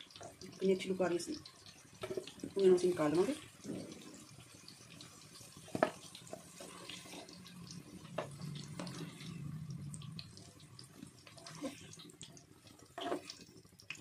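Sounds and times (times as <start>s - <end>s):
potatoes deep-frying in oil: 0.0s - 14.0s.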